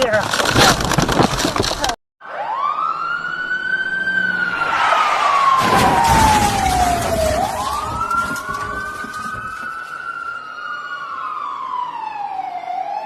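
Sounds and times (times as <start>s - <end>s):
road and engine noise: 0.0s - 13.0s
emergency vehicle siren wailing: 2.2s - 13.0s.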